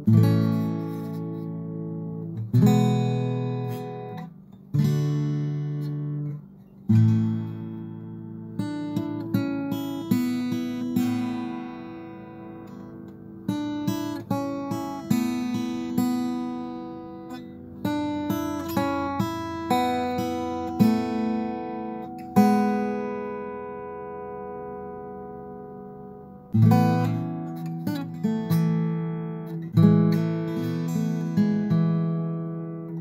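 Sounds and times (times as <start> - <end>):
acoustic guitar music: 0.0 - 33.0.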